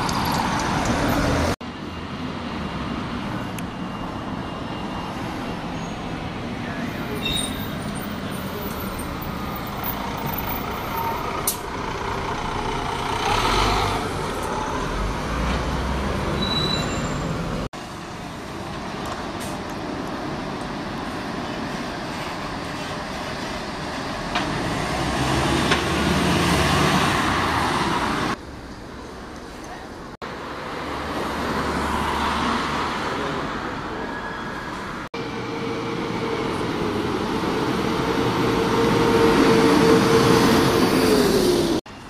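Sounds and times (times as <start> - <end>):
bus driving past: 0.0 - 28.4, 30.3 - 42.0
double-decker bus pulling away: 0.0 - 28.4, 30.4 - 42.0
street traffic: 0.0 - 42.0.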